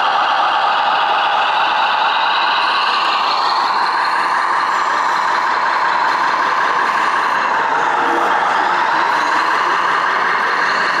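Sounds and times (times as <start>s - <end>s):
electronic truck engine sound: 0.0s - 11.0s.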